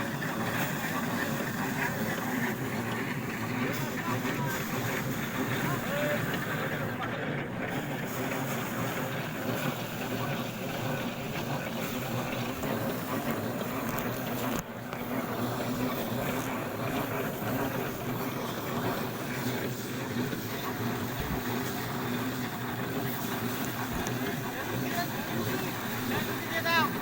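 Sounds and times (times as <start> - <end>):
harvesting machine engine running: 0.0 - 27.0.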